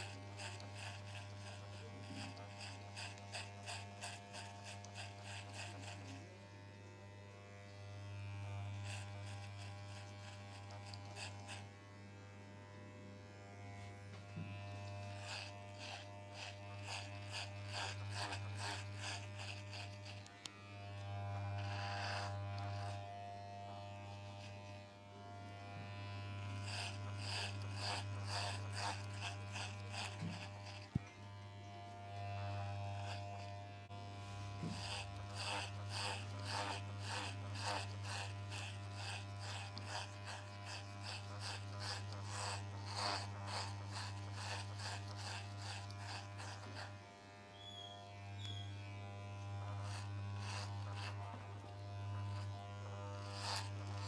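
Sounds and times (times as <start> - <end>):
crackle of hair cutting: 0.0 - 54.0
electric hair clipper buzzing: 0.0 - 54.0.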